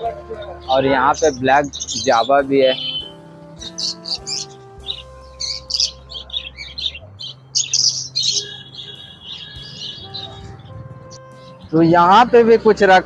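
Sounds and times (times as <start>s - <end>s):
small birds chirping: 0.0s - 12.3s
bird trilling call: 0.3s - 11.8s.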